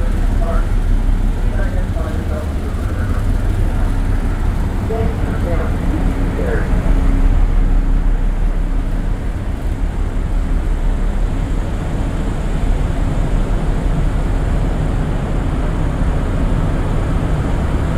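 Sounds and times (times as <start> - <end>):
ship engines humming: 0.0 - 17.9
wind buffeting microphone: 0.0 - 17.9.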